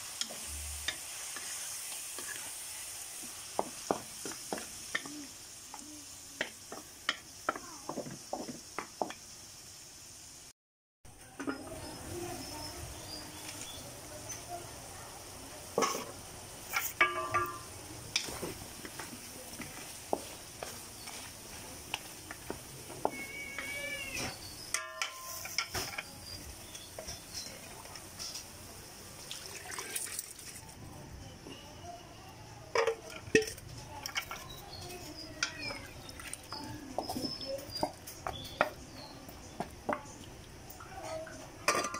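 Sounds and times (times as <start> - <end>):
food sizzling in a wok: 0.0 - 10.5, 11.1 - 41.9.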